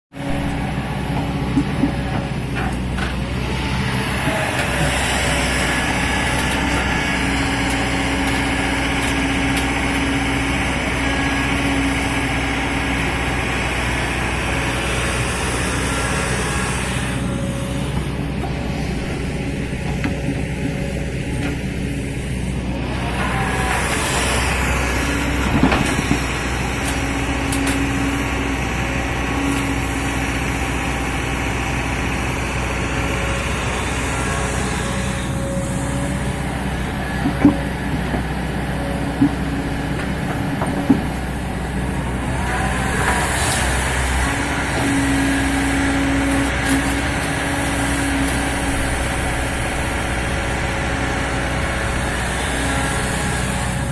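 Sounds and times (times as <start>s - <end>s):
excavator diesel engine running: 0.2s - 53.9s.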